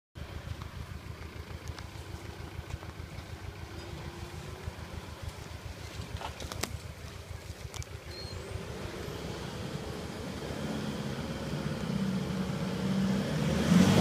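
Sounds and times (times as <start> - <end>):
pickup truck engine low rumble: 0.2 - 14.0.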